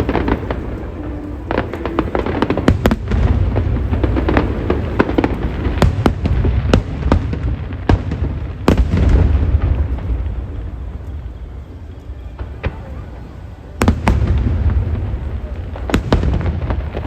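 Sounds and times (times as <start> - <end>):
fireworks sharp cracks: 0.0 - 11.6, 12.3 - 17.0
deep rumble of fireworks booms: 0.0 - 17.0.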